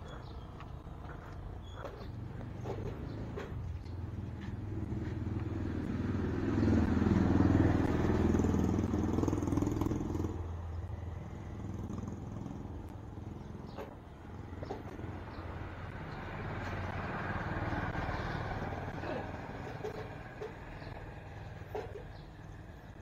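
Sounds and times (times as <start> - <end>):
vehicle passing close by: 2.2 - 22.6.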